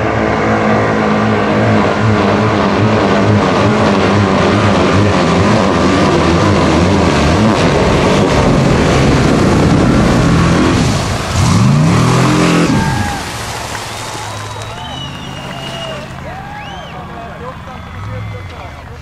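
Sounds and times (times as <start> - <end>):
buggy engine revving high: 0.0 - 19.0
churned water rushing: 0.0 - 19.0.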